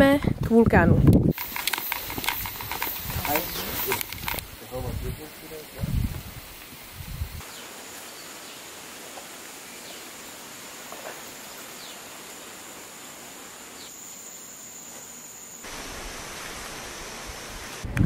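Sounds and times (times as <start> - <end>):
insect chorus buzzing: 1.2 - 17.8.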